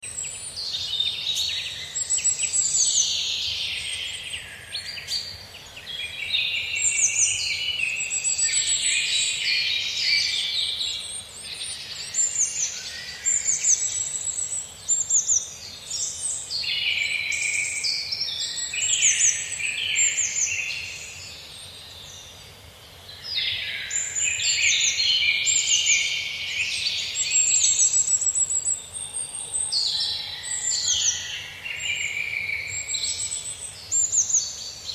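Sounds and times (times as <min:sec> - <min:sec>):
birds chirping and trilling: 0:00.0 - 0:34.9.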